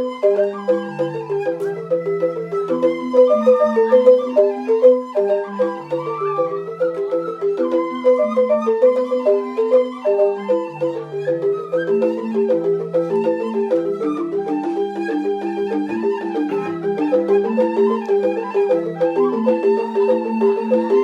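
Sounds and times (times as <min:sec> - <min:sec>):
bamboo xylophones playing: 0:00.0 - 0:21.0.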